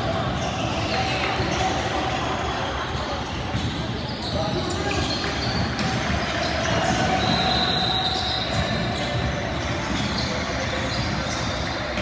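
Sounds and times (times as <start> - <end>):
crowd and court noise: 0.0 - 12.0.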